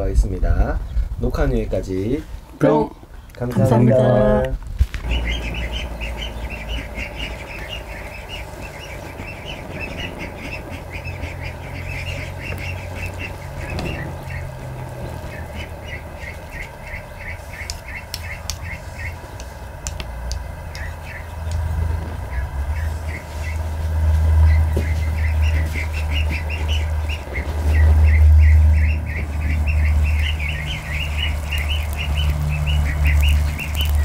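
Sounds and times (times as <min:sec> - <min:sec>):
steady low rumble: 0:00.0 - 0:34.0
ducklings peeping: 0:05.0 - 0:34.0.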